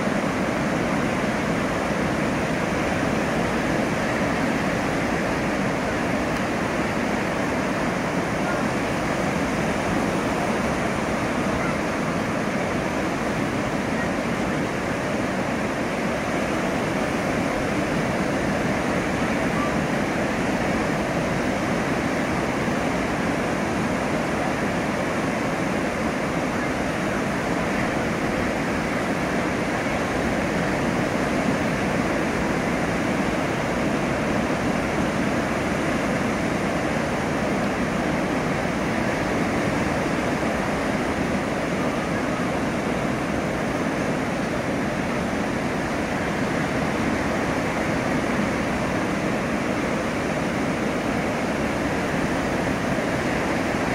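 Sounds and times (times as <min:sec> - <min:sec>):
ocean surf breaking: 0:00.0 - 0:53.9.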